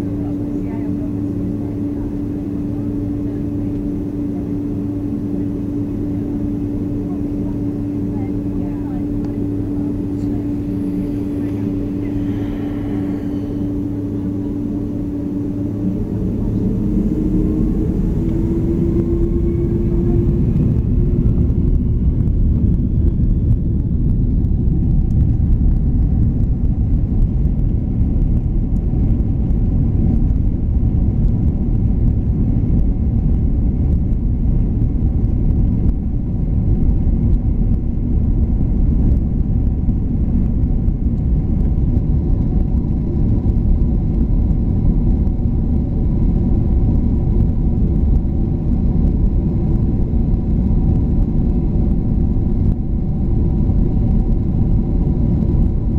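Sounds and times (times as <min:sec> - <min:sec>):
faint steady hum: 0:00.0 - 0:55.9
jet engines rumbling: 0:00.0 - 0:55.9.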